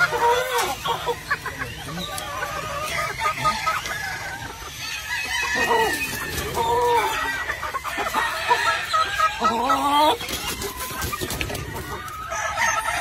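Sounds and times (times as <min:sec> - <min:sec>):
hens clucking: 0:00.0 - 0:13.0
roosters crowing: 0:00.0 - 0:13.0.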